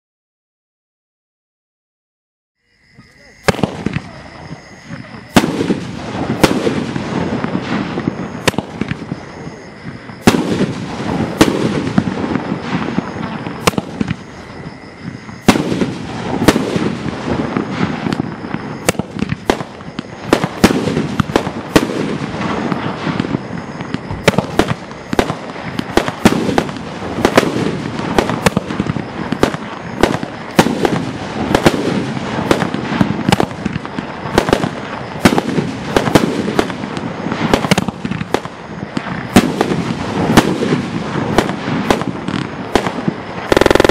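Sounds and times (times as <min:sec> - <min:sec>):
firework crackling: 0:03.0 - 0:43.9
firework shells bursting: 0:04.8 - 0:43.9.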